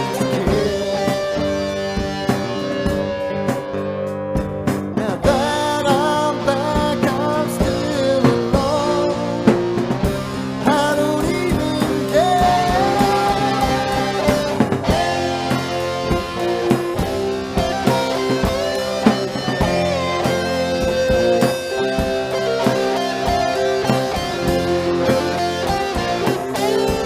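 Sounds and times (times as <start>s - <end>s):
bass guitar: 0.0s - 27.0s
drum kit: 0.0s - 27.0s
lead guitar bending notes: 0.0s - 27.0s
rhythm guitar: 0.0s - 27.0s.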